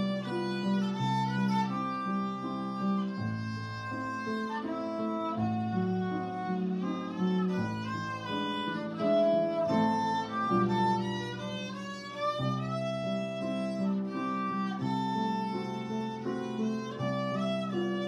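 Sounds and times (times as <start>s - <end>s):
violin melody: 0.0s - 18.0s.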